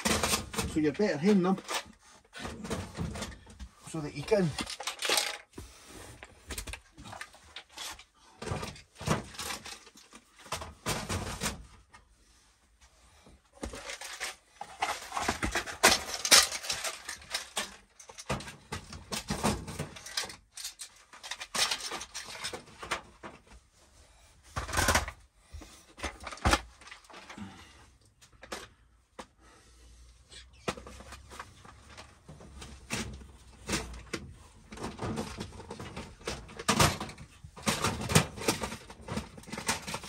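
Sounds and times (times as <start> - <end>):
plastic boxes clattering: 0.0 - 11.9, 13.6 - 23.5, 24.5 - 25.2, 25.9 - 27.6, 30.6 - 40.0.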